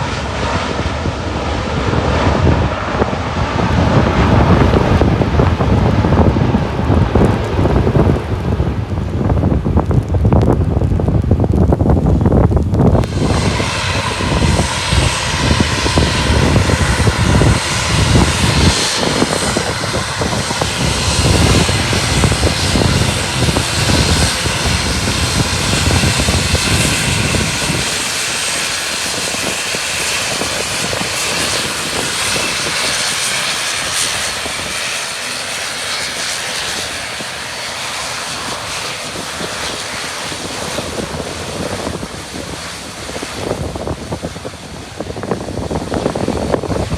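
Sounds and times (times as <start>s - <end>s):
airliner engines running: 0.0s - 46.9s
wind buffeting microphone: 0.0s - 46.9s.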